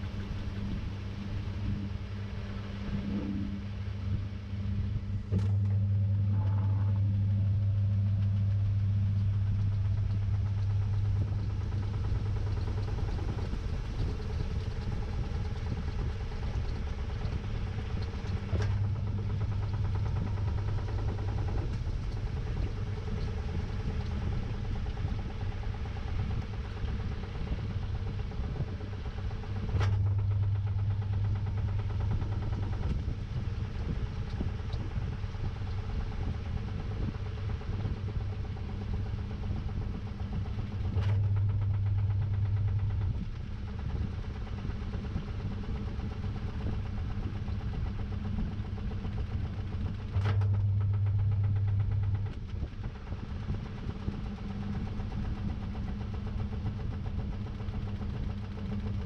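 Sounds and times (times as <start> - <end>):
churning inside washing drum: 0.0 - 59.0
washing machine motor humming: 0.0 - 59.0.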